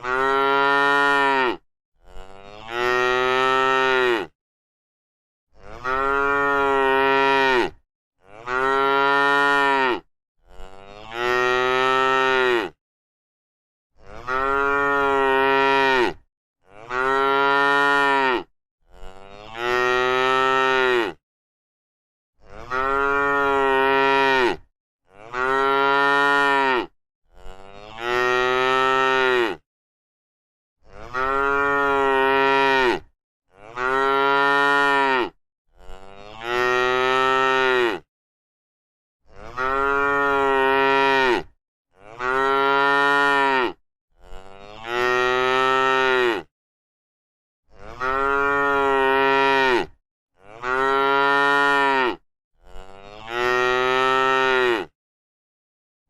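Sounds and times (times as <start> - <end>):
cow mooing: 0.0 - 4.4, 5.6 - 12.8, 14.0 - 21.2, 22.4 - 29.6, 30.8 - 38.1, 39.3 - 46.5, 47.8 - 55.0.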